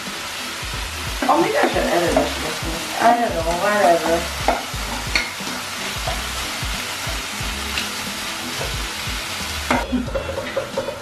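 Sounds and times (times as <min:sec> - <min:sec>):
vegetables sizzling in wok: 0:00.0 - 0:11.0.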